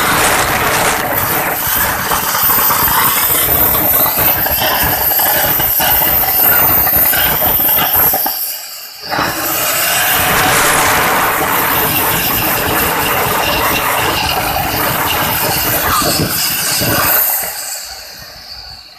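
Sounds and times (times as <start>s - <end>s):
turbojet engine hiss and whine: 0.0s - 18.9s.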